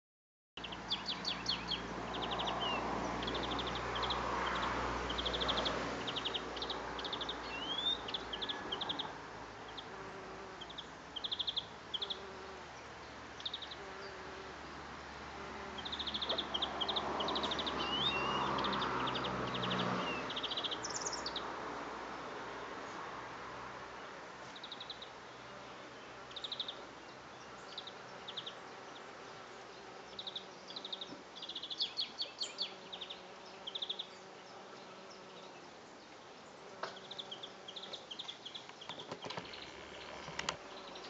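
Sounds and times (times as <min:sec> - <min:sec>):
birds chirping trills: 0:00.6 - 0:14.4, 0:15.4 - 0:21.5, 0:24.0 - 0:41.0
bee buzzing: 0:00.9 - 0:21.7, 0:22.8 - 0:41.0.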